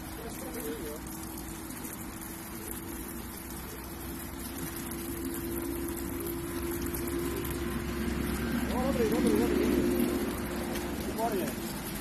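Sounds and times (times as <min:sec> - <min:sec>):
low machine hum: 0:00.0 - 0:12.0
water running from a tap: 0:00.0 - 0:12.0.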